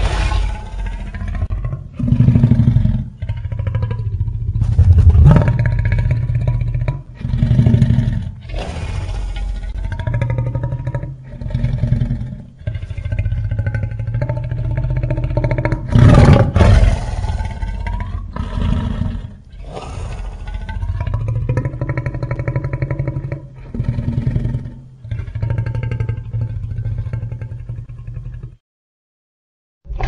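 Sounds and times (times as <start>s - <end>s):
monster growls and roars: 0.0s - 28.6s.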